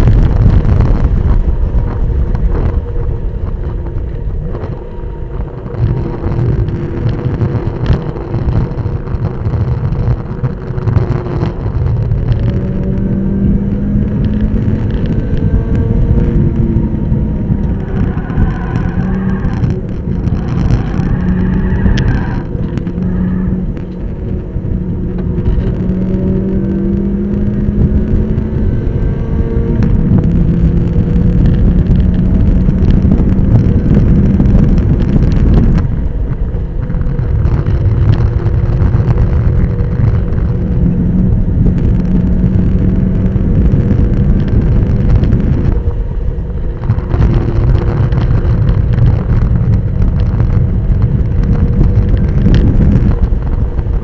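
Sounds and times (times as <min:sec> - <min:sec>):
race car engine revving: 0:00.0 - 0:54.0
road rumble: 0:00.0 - 0:54.0
wind noise: 0:00.0 - 0:54.0.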